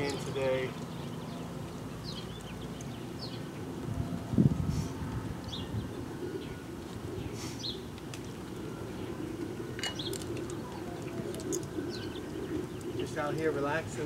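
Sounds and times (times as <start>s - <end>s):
birds chirping: 0.0s - 14.0s
steady low background hum: 0.0s - 14.0s.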